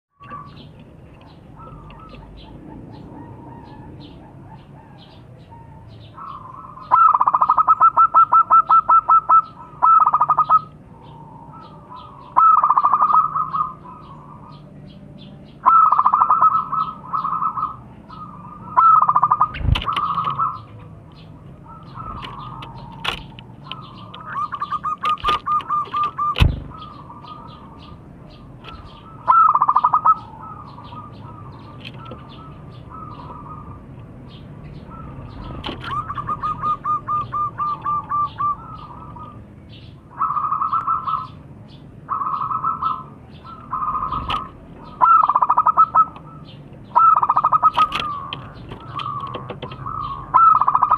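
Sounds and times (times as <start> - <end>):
dove cooing: 0.2 - 50.9.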